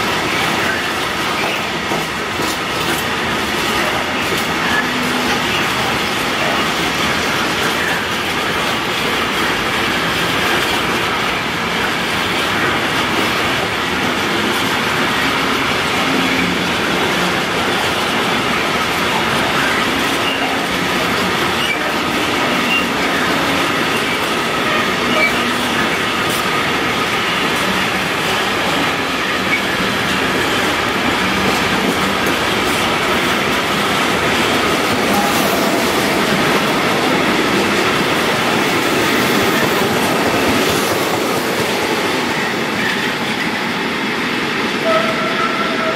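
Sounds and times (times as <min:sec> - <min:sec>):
freight train wheels on rails: 0:00.0 - 0:45.9.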